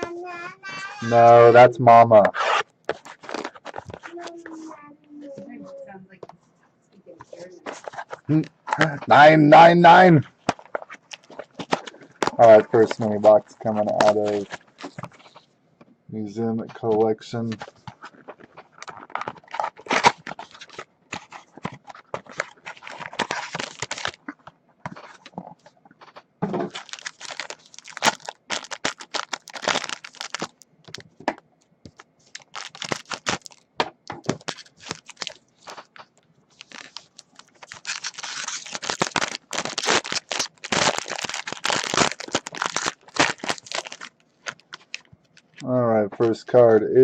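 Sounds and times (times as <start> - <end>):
packaging tearing and crinkling: 1.0 - 4.3, 7.7 - 15.4, 17.5 - 31.0, 31.9 - 33.6, 34.2 - 45.6.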